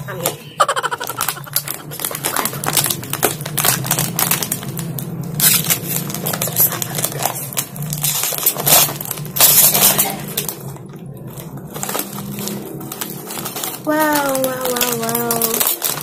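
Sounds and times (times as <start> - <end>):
plastic bag crinkling: 0.2 - 16.0.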